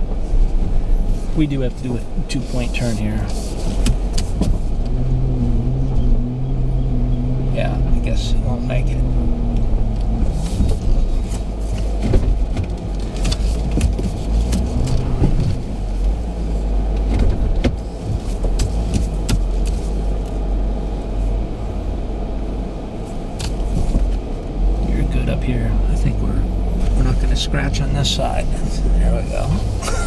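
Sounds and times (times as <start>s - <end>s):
engine and tyre rumble: 0.0s - 30.0s.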